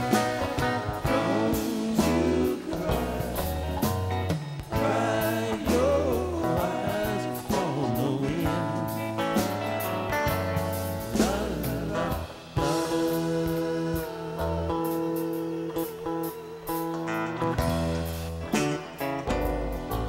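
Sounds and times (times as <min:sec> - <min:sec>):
guitar: 0:00.0 - 0:20.0
person singing: 0:00.0 - 0:20.0
steady bass line: 0:00.0 - 0:20.0.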